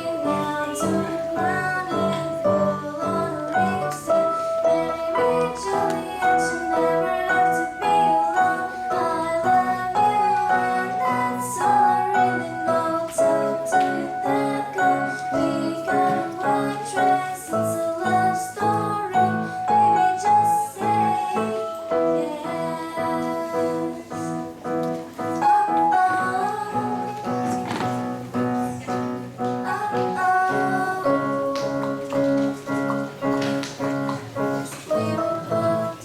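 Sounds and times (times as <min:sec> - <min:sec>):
song with keyboard chords: 0:00.0 - 0:36.0.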